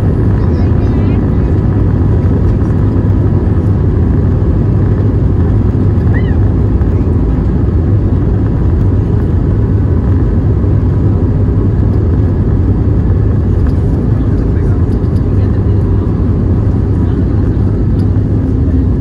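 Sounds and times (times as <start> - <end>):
aircraft engines rumbling: 0.0 - 19.0.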